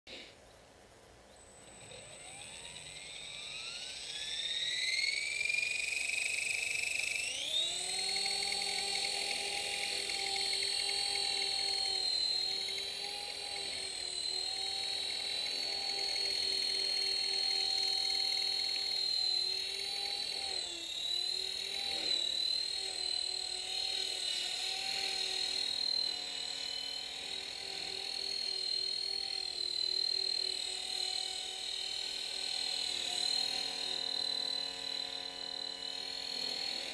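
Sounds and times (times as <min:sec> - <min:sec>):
model helicopter motor whine: 0:01.2 - 0:36.9.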